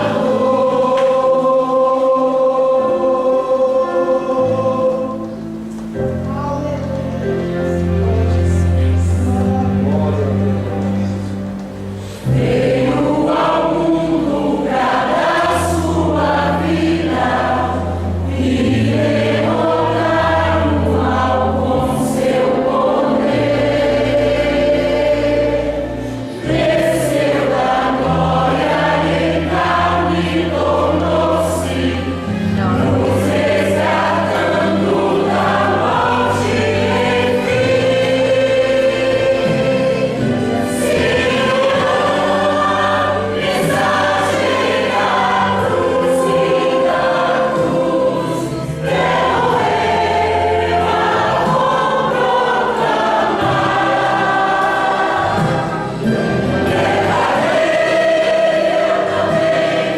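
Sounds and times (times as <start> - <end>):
choir singing a hymn: 0.0 - 59.9
instrumental accompaniment: 0.0 - 59.9.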